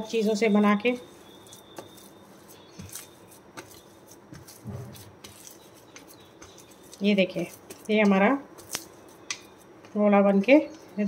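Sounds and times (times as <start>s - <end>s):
hand kneading dough: 0.0s - 11.0s.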